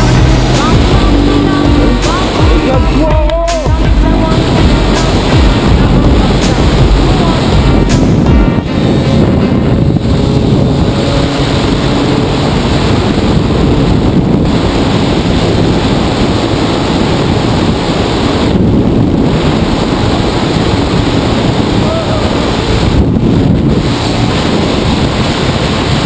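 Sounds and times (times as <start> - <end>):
motorcycle engine: 0.0 - 21.8
wind buffeting microphone: 0.0 - 26.0.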